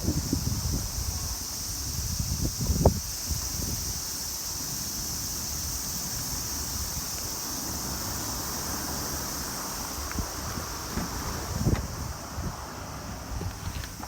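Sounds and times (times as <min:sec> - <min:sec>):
storm wind: 0:00.0 - 0:14.0.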